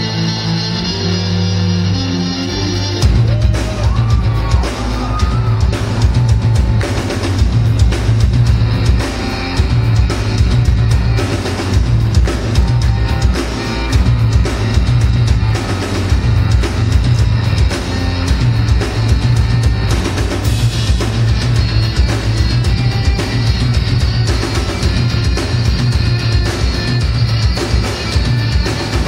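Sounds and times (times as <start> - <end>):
distorted cellos playing metal riff: 0.0 - 29.0
rock drum kit: 2.4 - 29.0.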